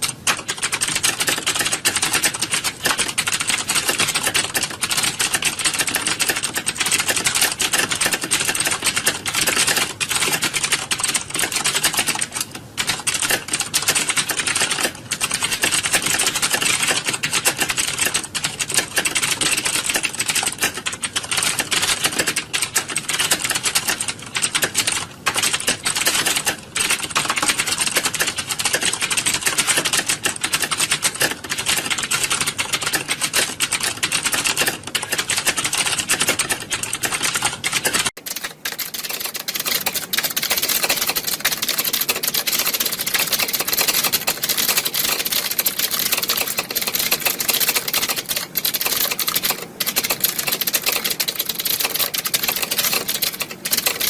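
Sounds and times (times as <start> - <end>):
many keyboards clattering: 0.0 - 54.0.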